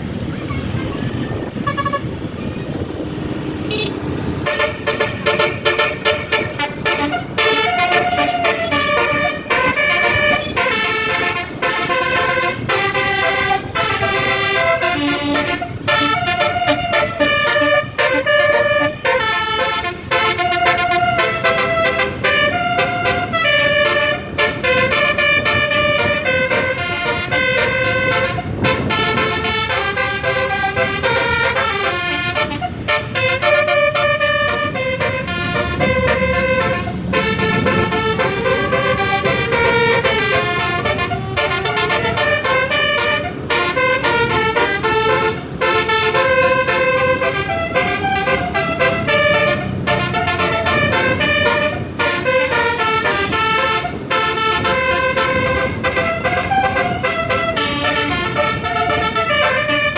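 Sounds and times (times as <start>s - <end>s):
musical air horns playing a melody: 0.5s - 2.8s, 3.6s - 59.9s.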